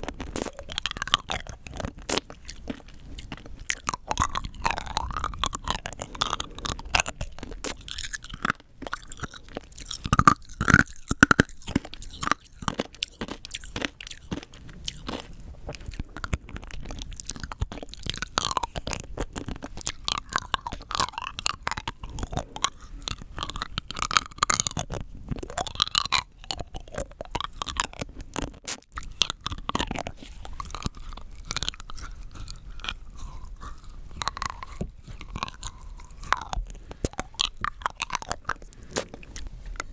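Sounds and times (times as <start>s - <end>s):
hard candy crunching: 0.0s - 39.9s.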